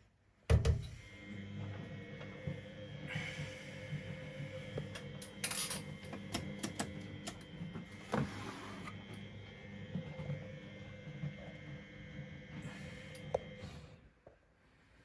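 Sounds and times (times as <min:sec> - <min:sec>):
washing machine motor hum: 0:00.5 - 0:14.2.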